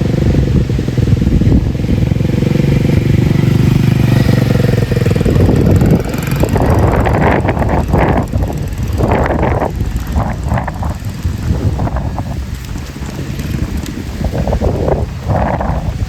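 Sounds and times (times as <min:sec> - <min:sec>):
mini bike engine running: 0:00.0 - 0:16.0.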